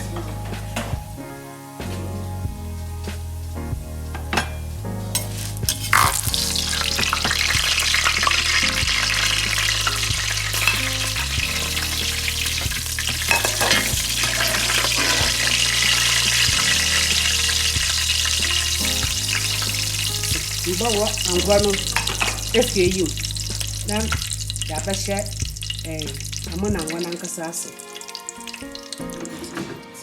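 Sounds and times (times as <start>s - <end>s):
food sizzling in hot oil: 5.1s - 29.5s
utensil stirring in pan: 5.2s - 29.2s.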